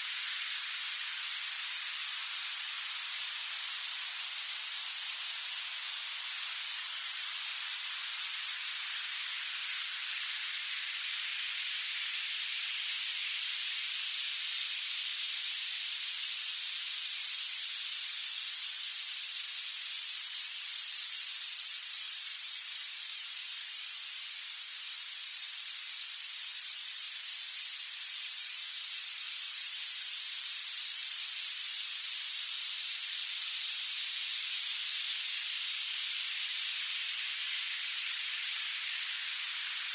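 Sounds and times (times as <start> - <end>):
bright high-pitched hiss: 0.0 - 39.9.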